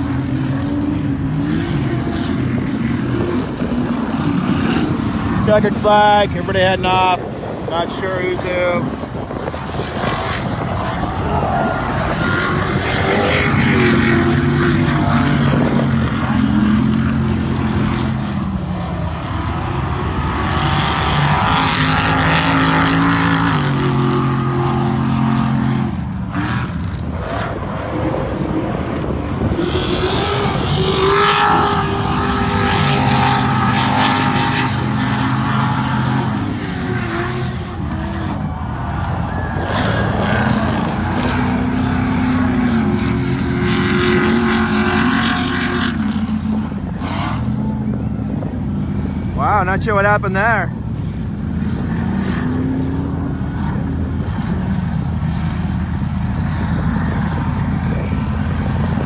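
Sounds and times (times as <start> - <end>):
race car engines revving past: 0.0 - 59.0.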